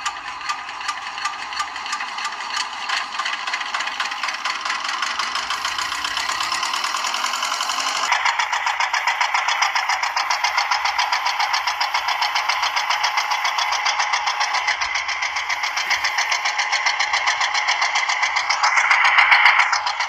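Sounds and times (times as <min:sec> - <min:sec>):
toy motor rattling whir: 0:00.0 - 0:20.0.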